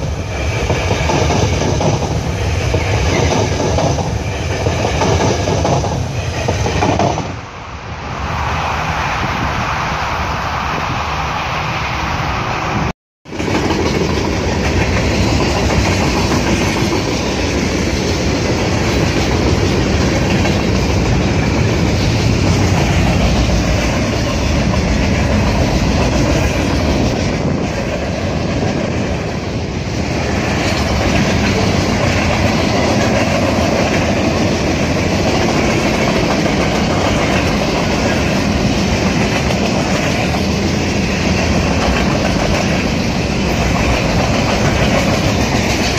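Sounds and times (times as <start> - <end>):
freight train wheels on rails: 0.0 - 45.9.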